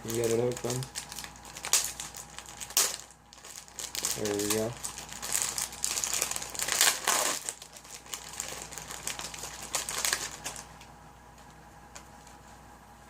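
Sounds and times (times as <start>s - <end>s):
packaging crinkling and rustling: 0.0s - 12.5s.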